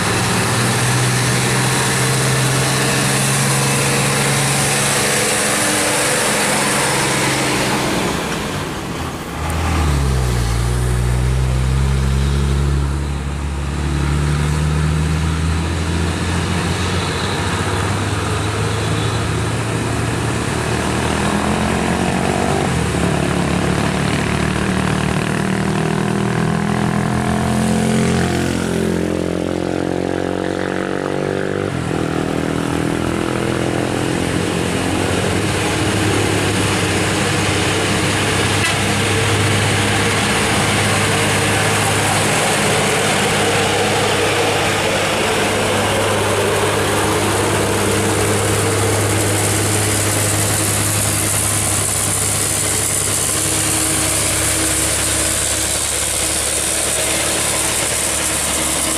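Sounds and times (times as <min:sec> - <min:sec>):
truck diesel engine under load: 0:00.0 - 0:58.9.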